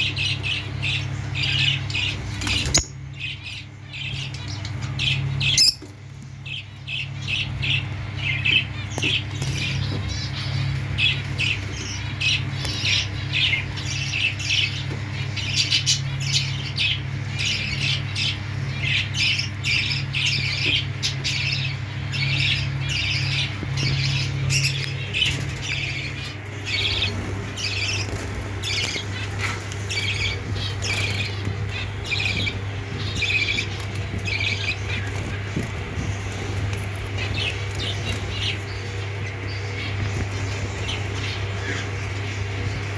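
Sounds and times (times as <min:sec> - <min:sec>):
lovebirds squawking: 0:00.0 - 0:42.9
steady low hum: 0:00.0 - 0:42.9.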